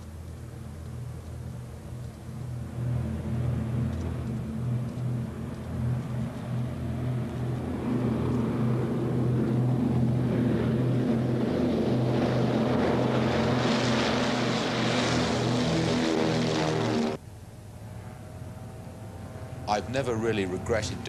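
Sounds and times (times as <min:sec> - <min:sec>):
propeller engines droning: 0:00.0 - 0:21.0.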